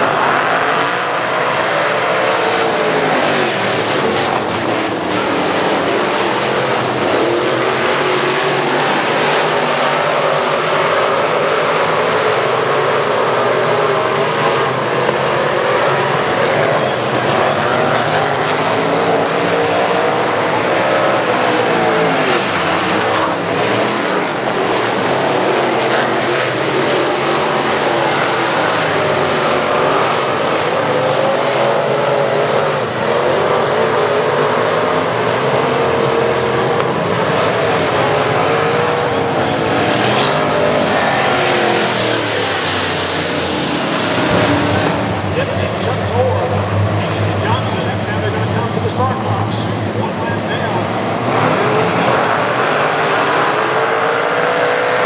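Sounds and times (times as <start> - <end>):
race car engines revving: 0.0 - 55.0.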